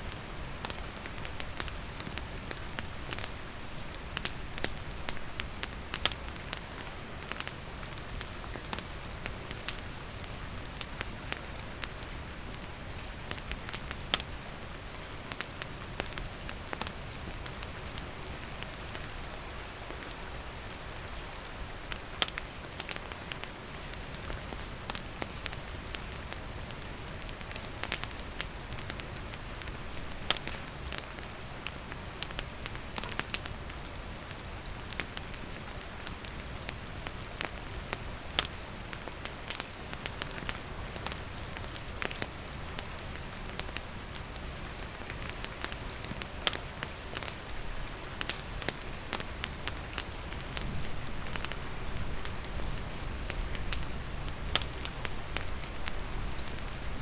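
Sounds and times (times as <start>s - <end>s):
steady rain falling: 0.0s - 57.0s
campfire crackling and popping: 0.1s - 20.2s, 21.9s - 57.0s.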